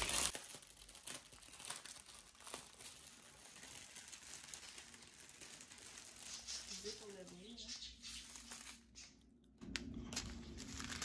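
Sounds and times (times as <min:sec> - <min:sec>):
plastic packaging crinkling: 0:00.0 - 0:09.0, 0:09.6 - 0:11.0.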